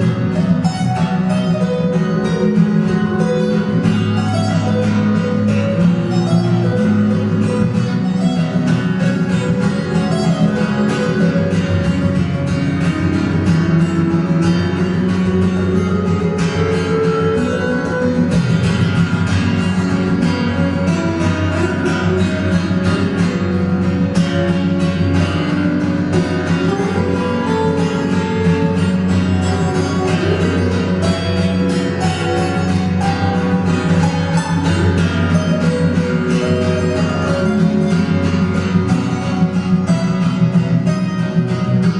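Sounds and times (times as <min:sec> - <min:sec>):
acoustic guitar music: 0:00.0 - 0:41.9.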